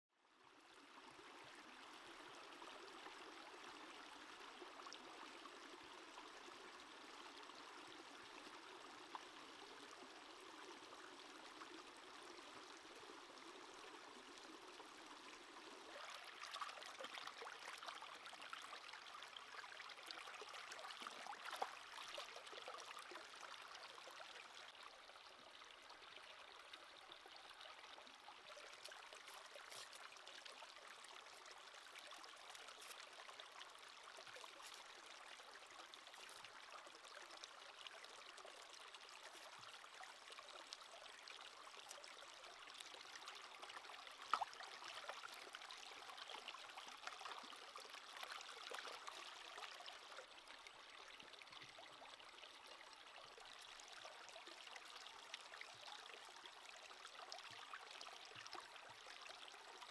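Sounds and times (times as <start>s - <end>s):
stream flowing over rocks: 0.8s - 59.9s.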